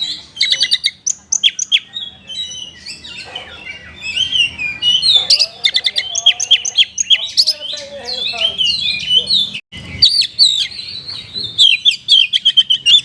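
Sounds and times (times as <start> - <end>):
bird singing varied song: 0.0 - 13.0.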